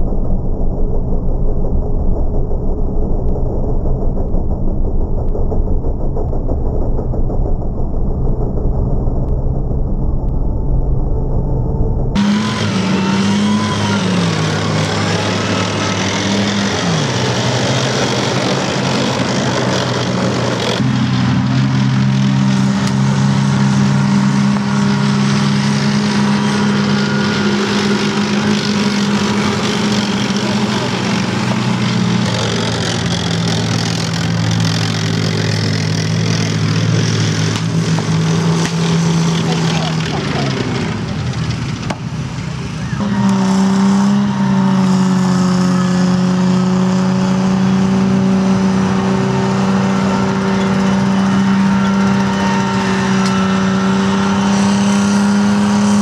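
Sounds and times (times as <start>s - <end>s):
tracked vehicle engine running: 0.0s - 56.0s.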